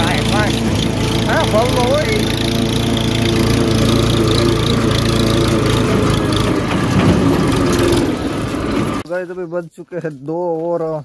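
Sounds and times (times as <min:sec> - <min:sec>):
tractor diesel engine running: 0:00.0 - 0:09.1.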